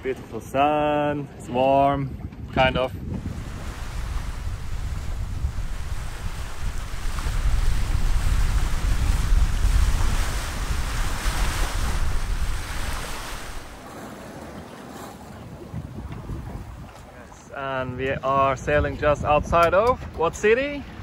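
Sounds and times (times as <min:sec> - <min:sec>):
water rushing past boat bow: 0:00.0 - 0:21.0
wind on microphone: 0:01.0 - 0:21.0.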